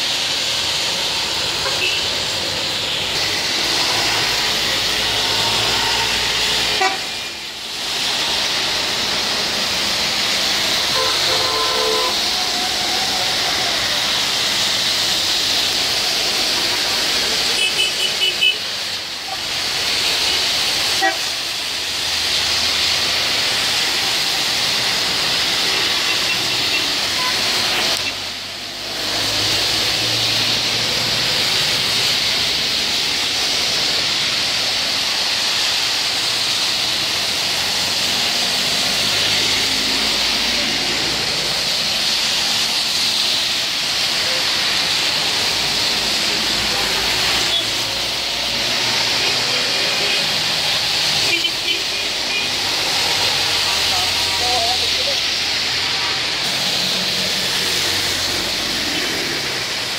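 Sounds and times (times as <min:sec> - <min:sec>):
heavy rain: 0:00.0 - 0:59.9
wet tyres hissing: 0:00.0 - 0:59.9.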